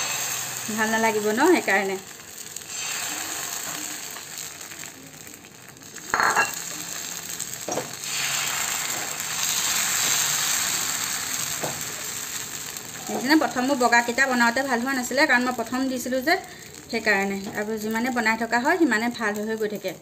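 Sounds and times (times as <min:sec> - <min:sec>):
batter sizzling on a griddle: 0:00.0 - 0:20.0.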